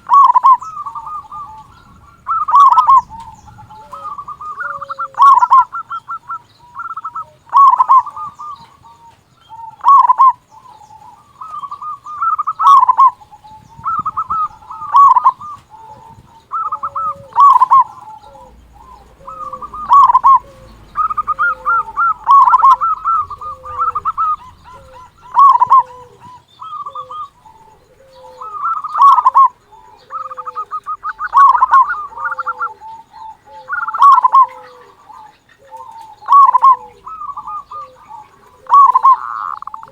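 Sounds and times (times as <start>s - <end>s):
dove cooing song: 0.0s - 39.9s
faint low coos: 0.0s - 39.9s.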